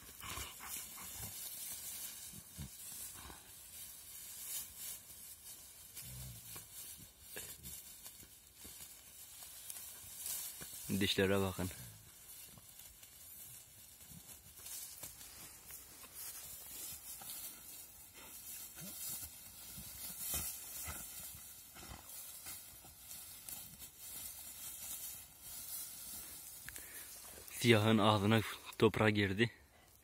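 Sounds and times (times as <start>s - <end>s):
dogs scuffling in dry grass: 0.0s - 28.6s.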